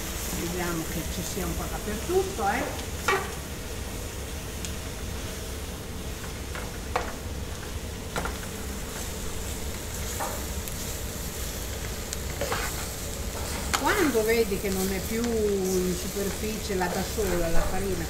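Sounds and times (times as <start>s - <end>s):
vegetables sizzling in butter: 0.0s - 18.0s.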